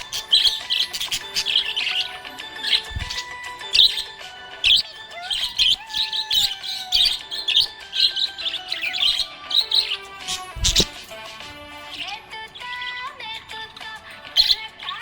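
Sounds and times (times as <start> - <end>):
background music: 0.0 - 15.0
budgerigars chirping: 0.0 - 15.0.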